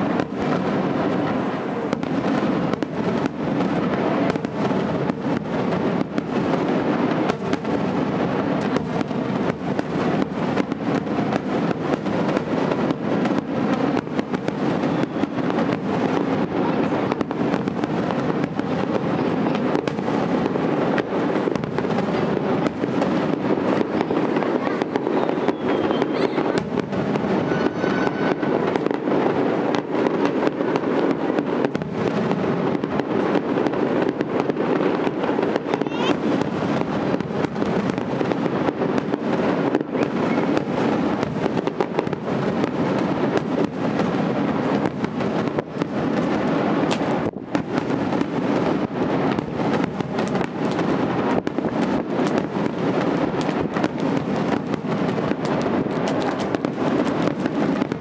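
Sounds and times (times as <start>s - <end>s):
firework shells bursting: 0.0s - 58.0s.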